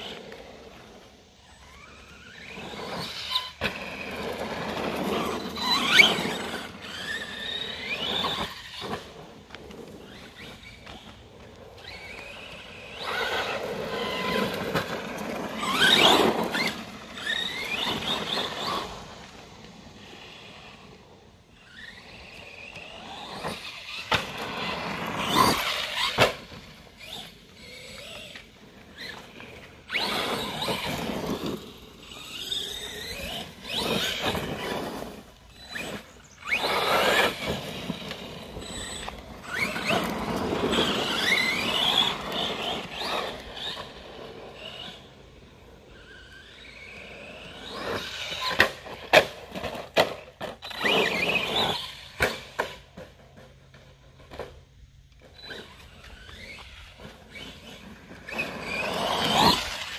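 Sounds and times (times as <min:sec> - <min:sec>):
rc truck motor whining: 0:00.0 - 0:59.9.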